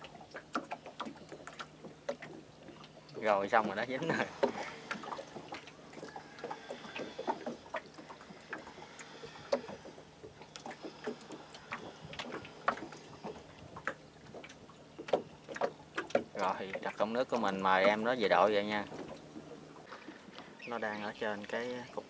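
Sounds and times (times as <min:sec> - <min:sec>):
water splashing against hull: 0:00.0 - 0:22.0.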